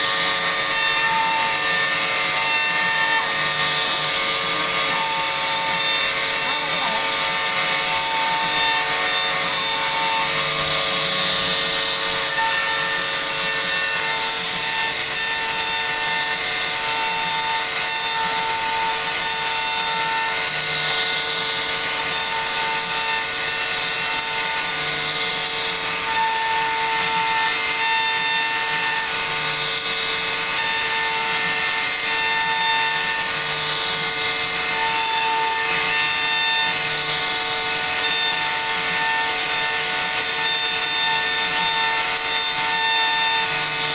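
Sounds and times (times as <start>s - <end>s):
hiss of bit cutting wood: 0.0s - 29.6s, 30.2s - 43.9s
cnc router spindle whine: 0.0s - 43.9s.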